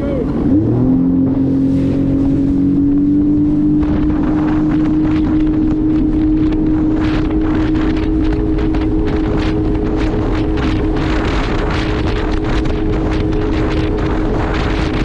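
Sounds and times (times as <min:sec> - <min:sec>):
jet ski engine whine: 0:00.0 - 0:15.0
water splashing: 0:00.0 - 0:15.0
wind buffeting microphone: 0:00.0 - 0:15.0.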